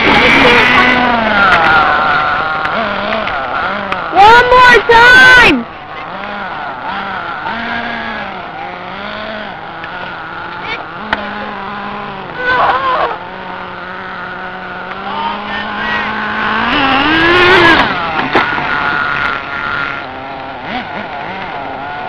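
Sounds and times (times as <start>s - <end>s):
rc car motor revving: 0.0s - 22.0s
steady high whine: 0.0s - 22.0s.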